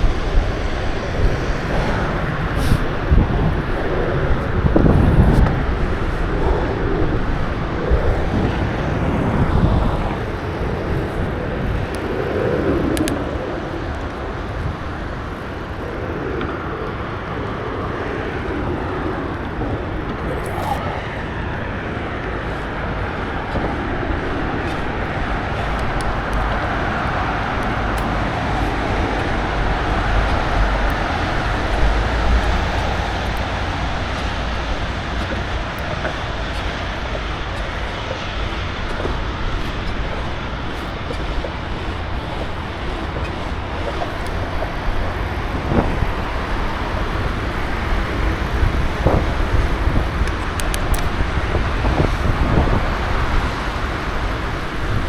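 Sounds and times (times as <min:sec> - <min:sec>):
bicycle road noise: 0:00.0 - 0:55.0
urban traffic: 0:00.0 - 0:55.0
wind rumble on microphone: 0:00.0 - 0:55.0.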